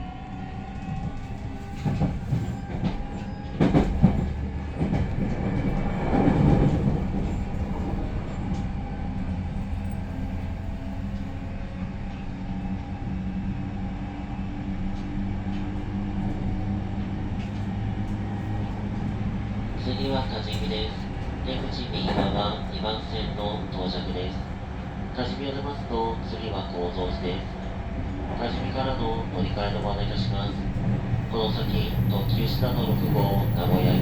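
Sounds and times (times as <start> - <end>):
train cabin hum: 0.1 - 34.0.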